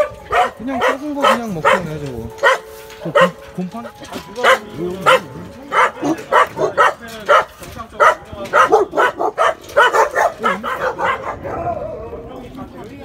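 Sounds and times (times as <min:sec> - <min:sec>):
young dogs barking: 0:00.0 - 0:03.5, 0:04.3 - 0:12.1.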